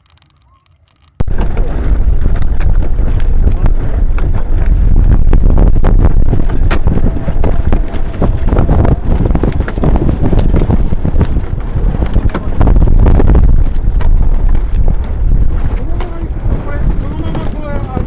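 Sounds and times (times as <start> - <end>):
strong wind on microphone: 1.2 - 18.0.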